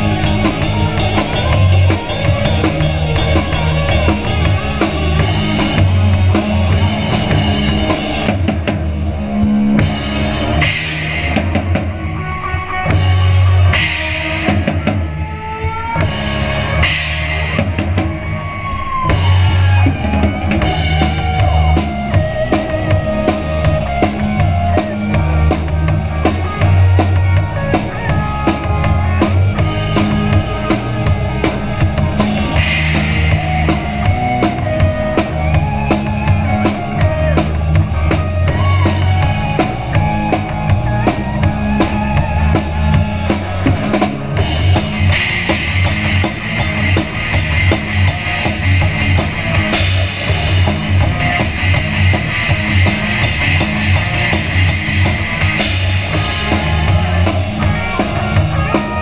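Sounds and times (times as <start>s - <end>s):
drum kit beat: 0.0s - 59.0s
live rock band: 0.0s - 59.0s.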